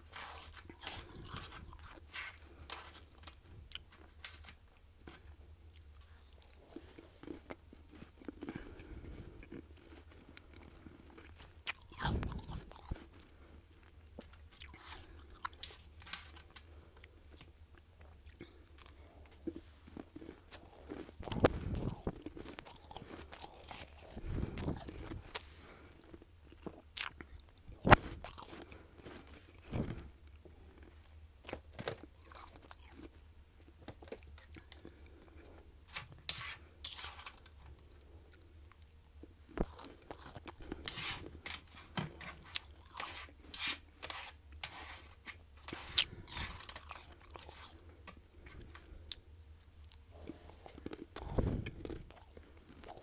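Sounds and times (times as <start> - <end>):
biting and chewing frost: 0.0 - 53.0.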